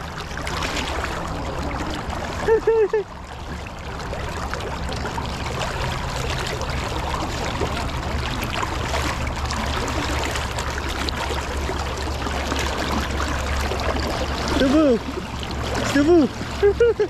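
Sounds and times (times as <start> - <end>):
river current rushing and gurgling: 0.0 - 17.0.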